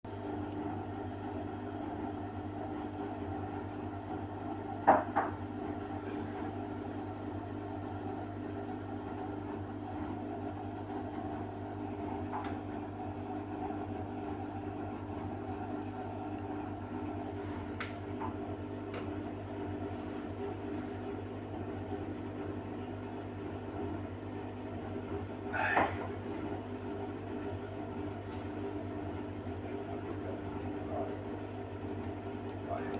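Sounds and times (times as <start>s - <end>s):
washing machine humming: 0.0s - 32.9s.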